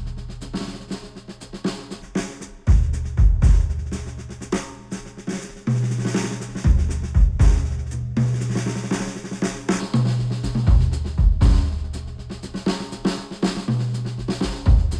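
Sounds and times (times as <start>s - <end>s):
drum kit and heavy bass music: 0.0s - 14.9s.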